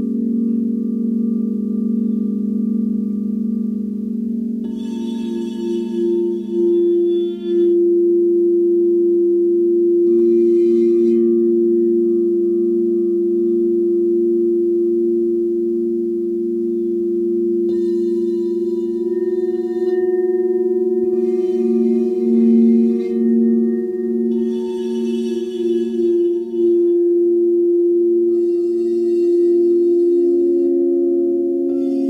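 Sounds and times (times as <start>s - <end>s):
bright shimmer of wand on bowl: 0.0s - 32.0s
singing bowls ringing: 0.0s - 32.0s.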